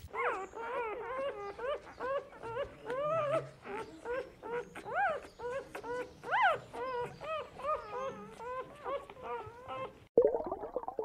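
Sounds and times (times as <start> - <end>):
animal whining calls: 0.0 - 10.1.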